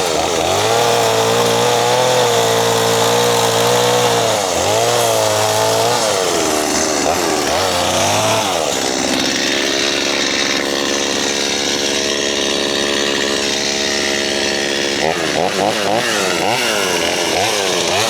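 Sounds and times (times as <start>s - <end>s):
chainsaw cutting into tree: 0.0s - 18.0s.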